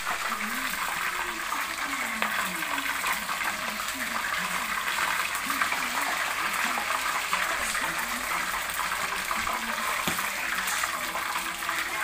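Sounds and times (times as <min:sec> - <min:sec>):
meat deep-frying in oil: 0:00.0 - 0:12.0.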